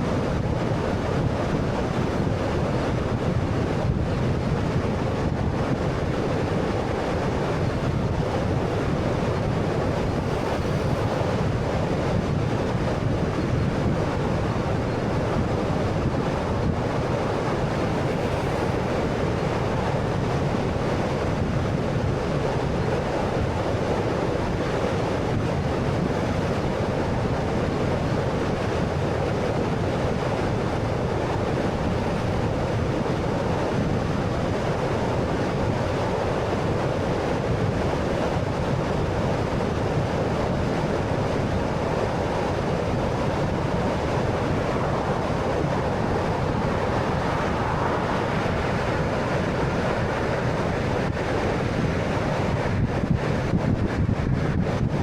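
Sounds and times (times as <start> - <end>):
tyre and wind road noise: 0.0 - 55.0.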